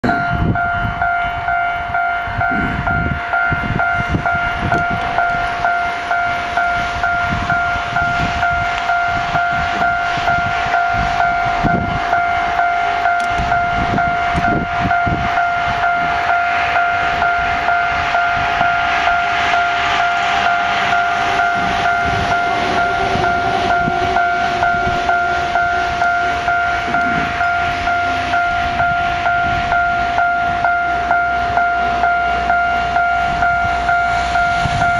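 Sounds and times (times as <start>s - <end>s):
freight train wheels knocking: 0.0s - 34.9s
train rushing rumble: 0.0s - 34.9s
two-tone pulsing ringing: 0.0s - 34.9s.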